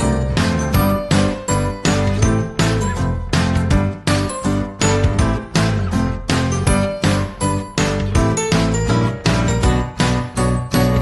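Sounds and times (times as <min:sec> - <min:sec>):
music with heavy bass: 0:00.0 - 0:11.0.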